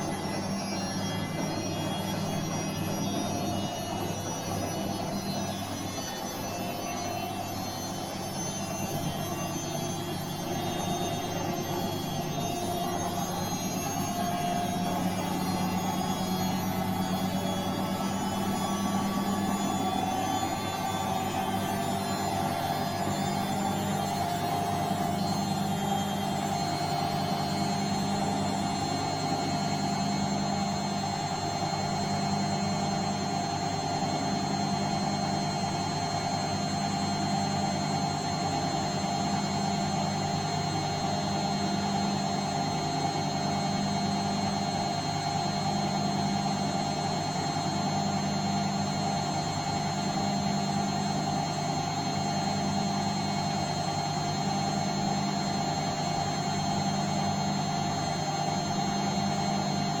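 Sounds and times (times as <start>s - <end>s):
washing machine motor hum: 0.0s - 60.0s.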